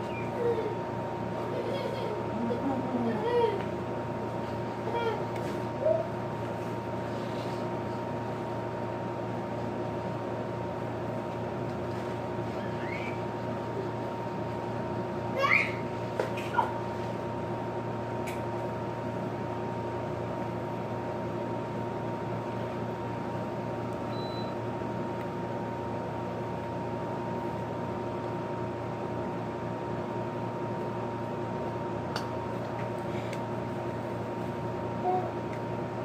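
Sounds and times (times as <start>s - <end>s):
appliance humming: 0.0s - 36.0s.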